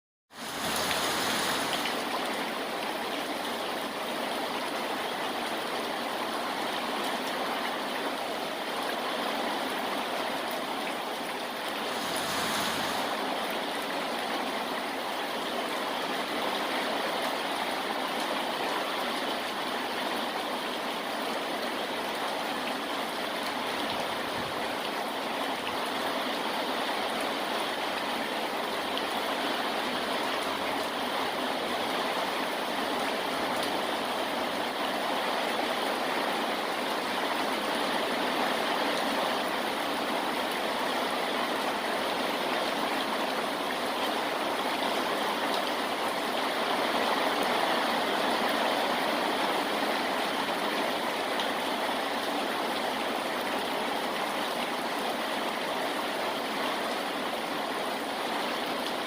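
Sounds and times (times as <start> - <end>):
rain falling: 0.3 - 59.0.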